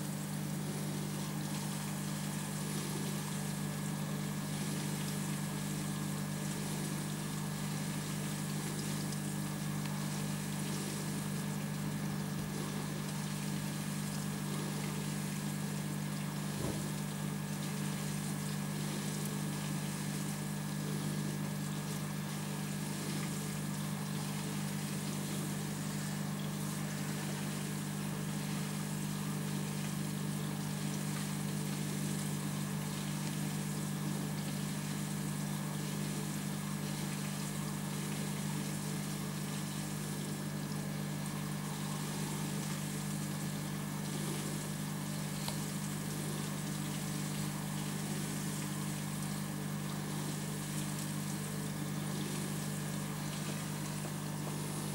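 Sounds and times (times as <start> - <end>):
aquarium pump humming: 0.0 - 54.9
faint moving water: 0.0 - 54.9.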